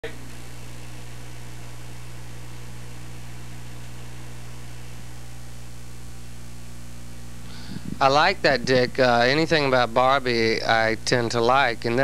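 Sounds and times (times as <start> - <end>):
low electrical hum: 0.0 - 12.0
tape hiss: 0.0 - 12.0.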